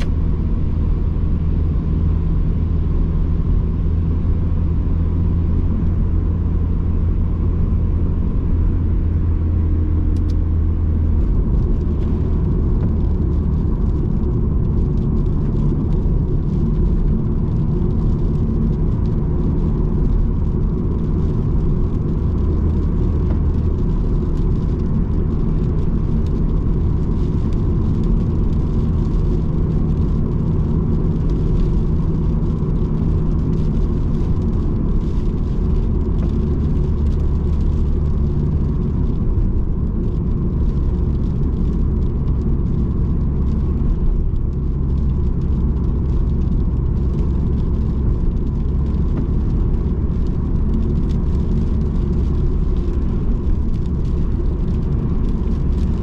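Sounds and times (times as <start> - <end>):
car engine cruising: 0.0 - 56.0.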